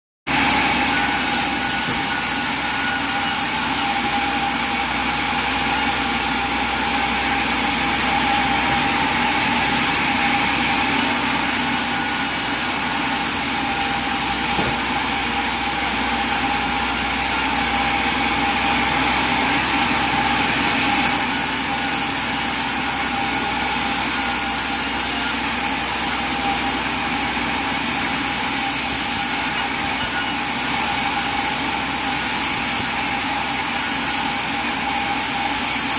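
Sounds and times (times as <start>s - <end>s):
sawmill machinery whine: 0.3s - 35.9s.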